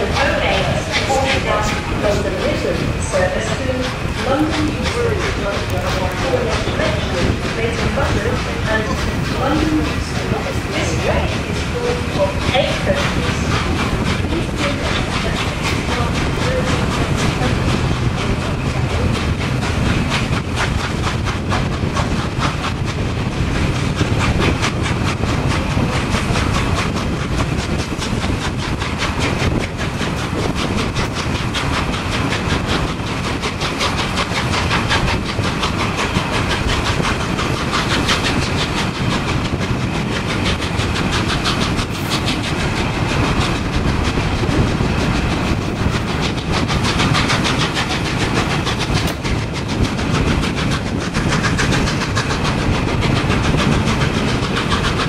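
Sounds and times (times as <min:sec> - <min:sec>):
steam locomotive exhaust beat: 0:00.0 - 0:55.0.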